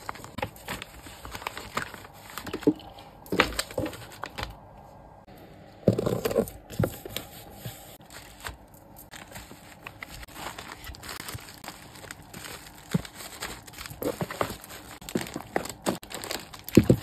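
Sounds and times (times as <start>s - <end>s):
paper and packaging rustling: 0.0s - 4.6s, 5.9s - 17.0s.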